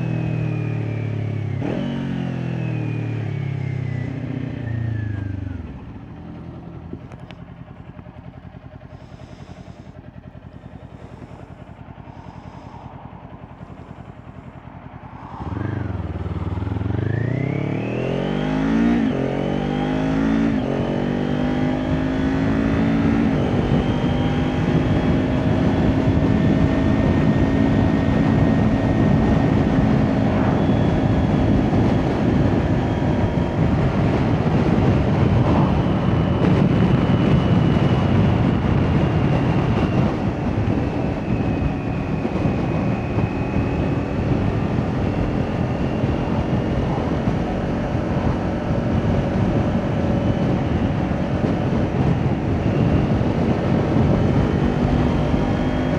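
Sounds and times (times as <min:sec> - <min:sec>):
motorcycle engine cruising: 0:00.0 - 0:55.9
wind rush over microphone: 0:04.3 - 0:55.9.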